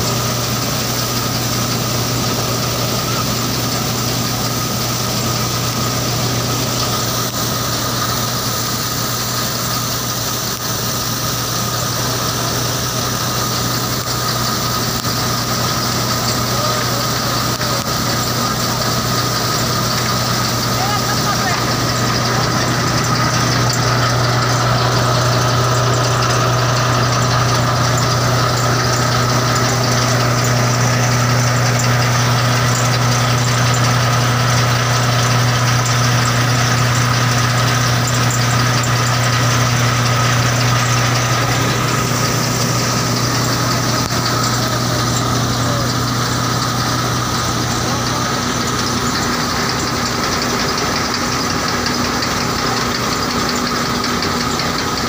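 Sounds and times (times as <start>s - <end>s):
engine hum: 0.0s - 55.0s
thresher shafts and belts whirring: 0.0s - 55.0s.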